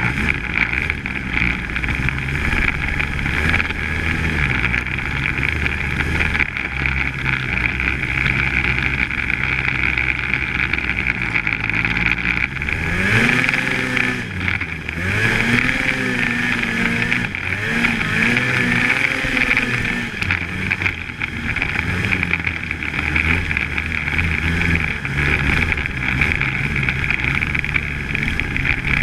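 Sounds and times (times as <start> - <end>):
snowmobile engine whining: 0.0 - 29.0.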